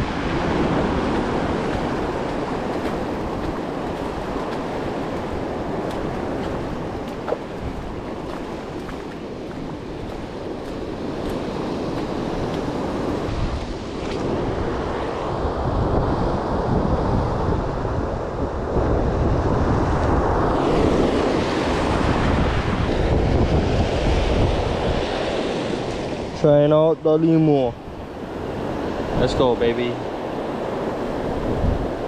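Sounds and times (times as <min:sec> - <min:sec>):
wind buffeting microphone: 0:00.0 - 0:26.6, 0:27.4 - 0:32.0.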